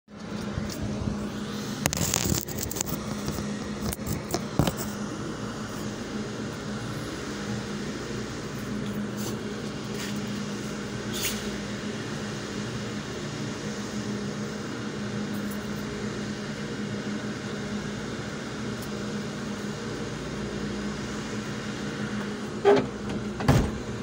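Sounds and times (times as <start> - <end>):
low mechanical hum: 0.1 - 24.0.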